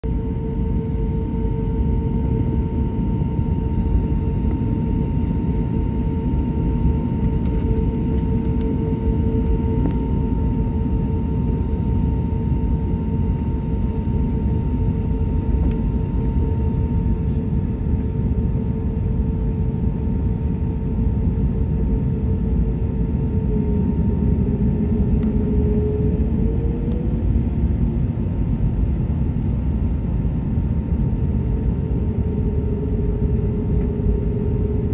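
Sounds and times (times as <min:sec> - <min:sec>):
jet engine rumble: 0:00.0 - 0:34.9
steady whine: 0:00.0 - 0:34.9.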